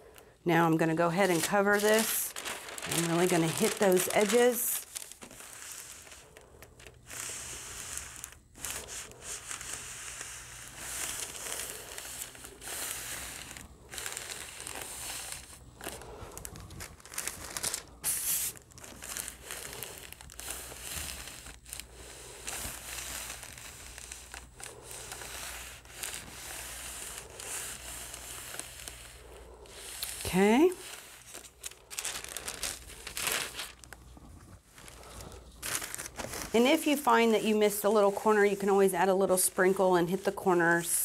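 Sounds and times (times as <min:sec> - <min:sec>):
parchment paper crinkling: 0:00.0 - 0:41.0.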